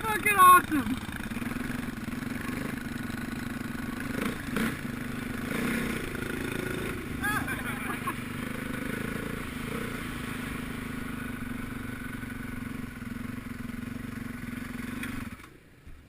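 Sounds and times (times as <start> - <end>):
motocross bike engine running: 0.0 - 15.4.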